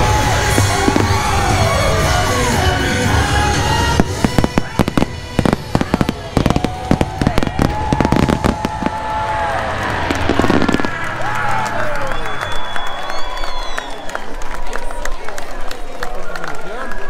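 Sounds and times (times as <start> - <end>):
fireworks bangs and crackles: 0.0 - 13.8.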